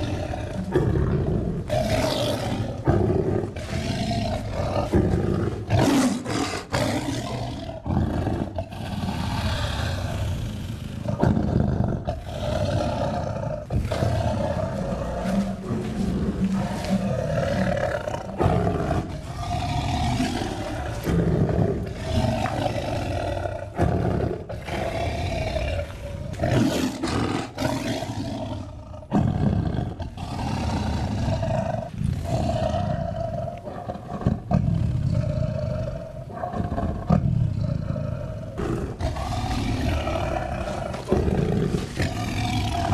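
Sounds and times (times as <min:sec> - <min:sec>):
tiger roaring and growling: 0:00.0 - 0:42.9.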